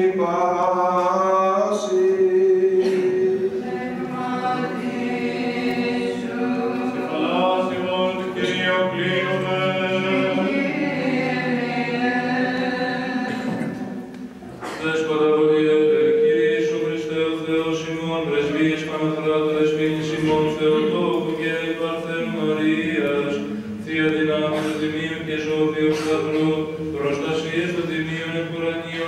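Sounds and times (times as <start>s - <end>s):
unaccompanied voices chanting: 0.0s - 29.0s.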